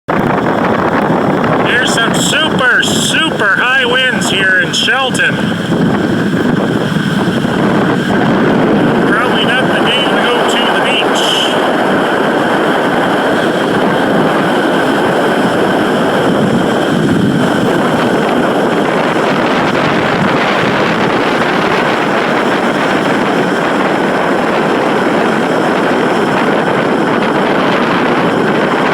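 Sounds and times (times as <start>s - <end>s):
wind on microphone: 0.1s - 28.9s.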